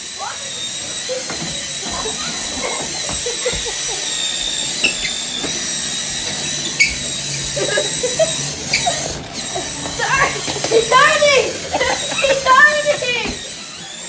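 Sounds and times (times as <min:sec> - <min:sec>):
small electric motor whine: 0:00.0 - 0:14.0.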